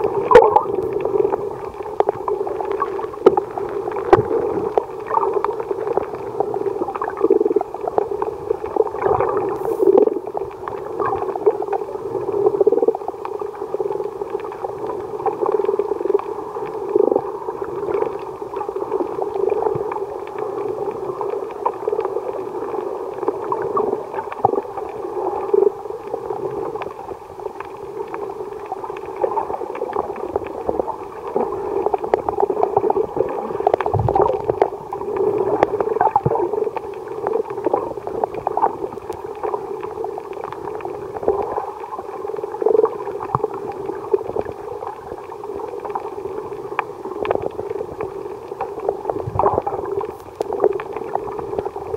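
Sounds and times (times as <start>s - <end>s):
muffled underwater hum: 0.0s - 51.9s
underwater crackling and clicking: 0.0s - 51.9s.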